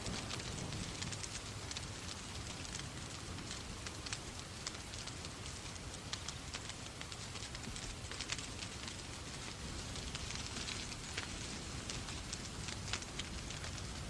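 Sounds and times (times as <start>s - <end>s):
fire crackling: 0.0s - 14.0s
steady rain: 0.0s - 14.0s.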